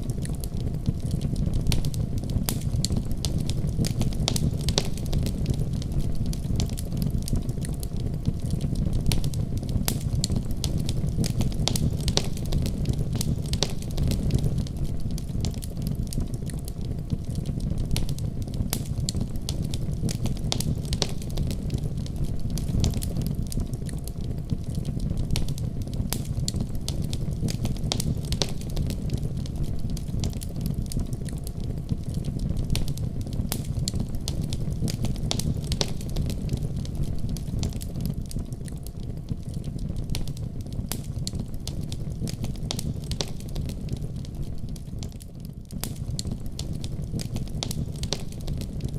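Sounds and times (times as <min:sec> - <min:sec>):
logs crackling and popping: 0:00.0 - 0:48.9
low rumble of fire: 0:00.0 - 0:48.9.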